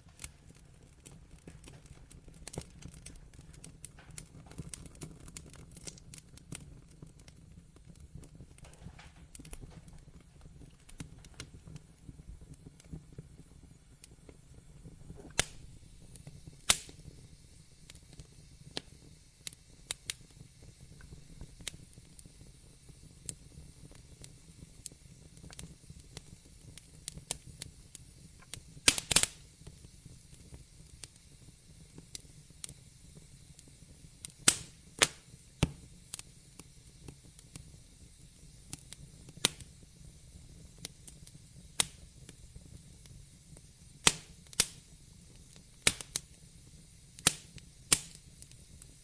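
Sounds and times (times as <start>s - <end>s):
faint low hiss: 0.0s - 49.0s
wood fire crackling: 0.0s - 49.0s.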